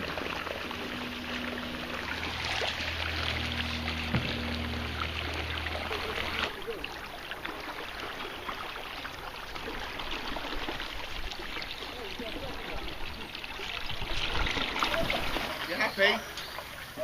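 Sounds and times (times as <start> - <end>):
low steady hum: 0.0 - 15.6
water splashing and trickling: 0.0 - 17.0.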